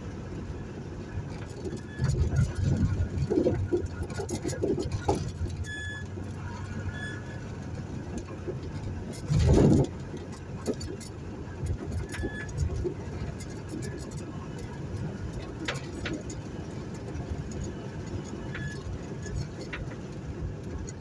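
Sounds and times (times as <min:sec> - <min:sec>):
car engine running: 0:00.0 - 0:21.0
road noise: 0:00.0 - 0:21.0.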